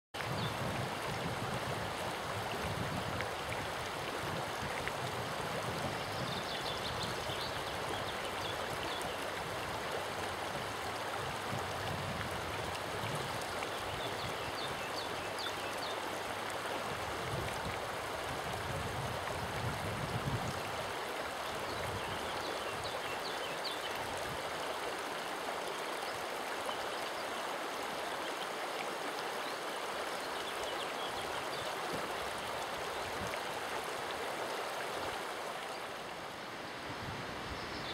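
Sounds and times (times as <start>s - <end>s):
river water rushing: 0.2s - 37.9s.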